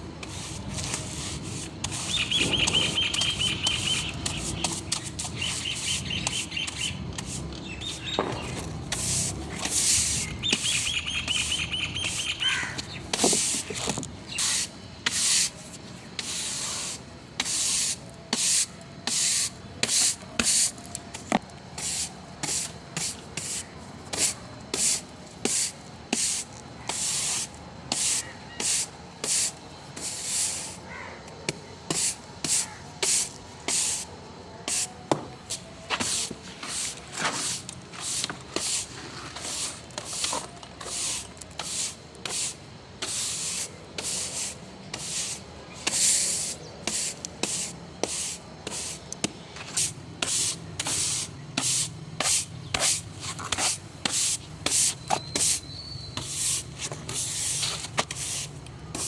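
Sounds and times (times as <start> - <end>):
short hissing strokes: 0.2 - 8.2, 8.9 - 30.9, 31.9 - 59.0.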